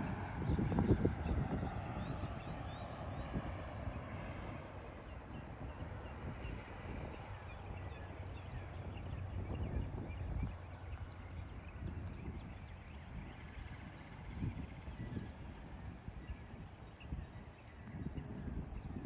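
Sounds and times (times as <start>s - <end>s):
truck rumbling along railroad track: 0.0s - 16.2s.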